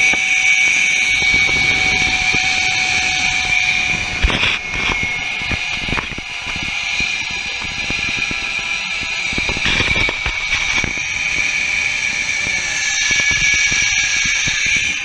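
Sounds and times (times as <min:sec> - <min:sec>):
wind buffeting microphone: 0:00.0 - 0:15.0
zip line pulleys whining on cable: 0:00.0 - 0:15.0.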